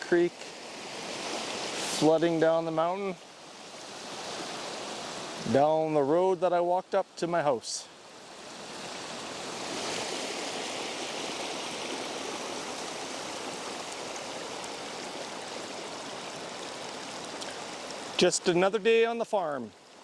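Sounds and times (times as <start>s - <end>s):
floodwater rushing: 0.0s - 5.7s, 7.4s - 20.0s.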